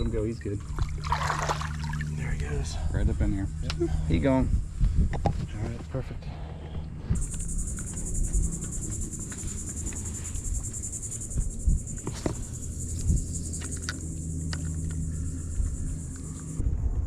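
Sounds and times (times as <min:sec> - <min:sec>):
buzzing insect chorus: 0:00.0 - 0:05.0, 0:07.2 - 0:16.6
low rumble: 0:00.0 - 0:17.0.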